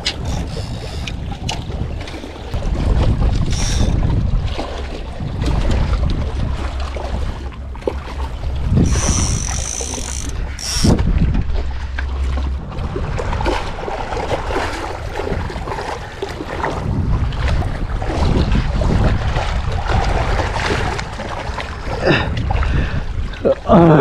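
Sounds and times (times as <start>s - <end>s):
water splashing against rocks: 0.0s - 23.6s
wind buffeting microphone: 0.0s - 24.0s.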